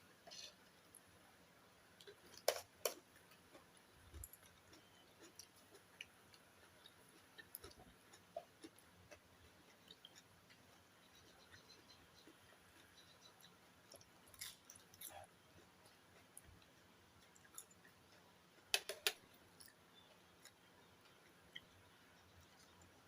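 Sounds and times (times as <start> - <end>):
faint chewing: 2.0 - 23.0.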